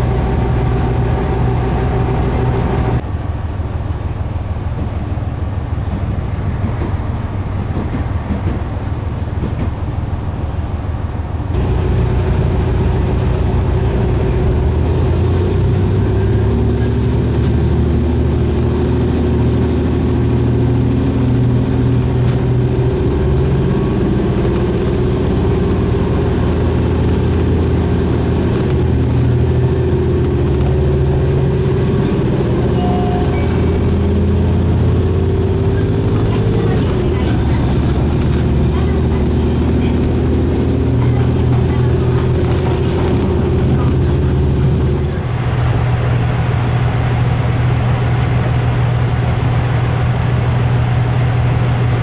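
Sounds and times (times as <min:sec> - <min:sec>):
diesel railcar engine drone: 0:00.0 - 0:52.0
train track noise: 0:00.0 - 0:52.0.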